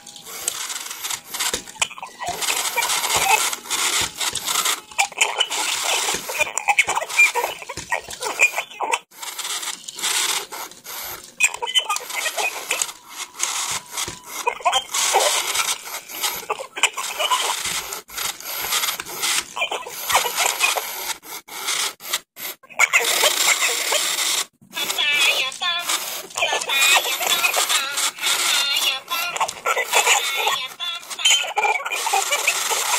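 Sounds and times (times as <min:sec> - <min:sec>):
toy chattering: 0:00.0 - 0:21.9, 0:22.6 - 0:32.9
glitchy garbled toy noise: 0:00.0 - 0:32.9.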